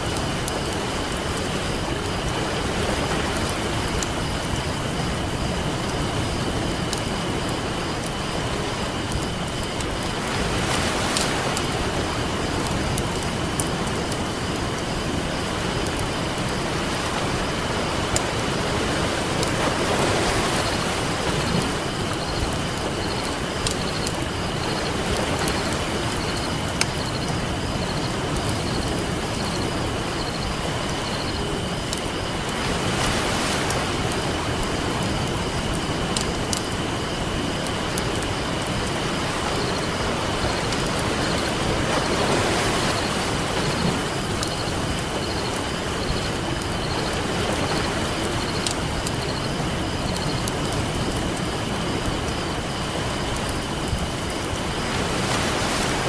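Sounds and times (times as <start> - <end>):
campfire crackling: 0.0 - 56.0
ocean surf: 0.0 - 56.0.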